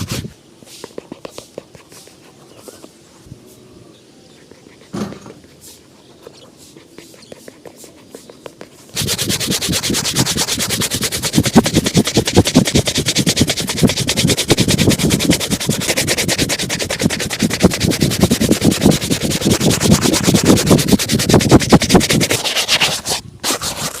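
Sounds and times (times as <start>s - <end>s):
shoe being brushed: 0.0s - 3.6s, 4.4s - 24.0s.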